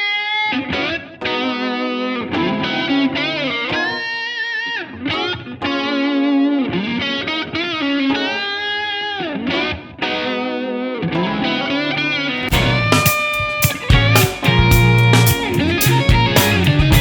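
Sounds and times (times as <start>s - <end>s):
distorted electric guitar lead: 0.0s - 17.0s.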